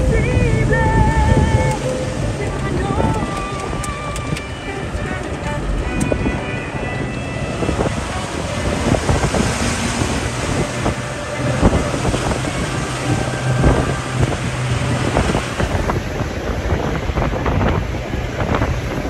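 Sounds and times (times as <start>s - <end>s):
vehicle engine driving: 0.0s - 19.0s
wind buffeting microphone: 0.0s - 19.0s.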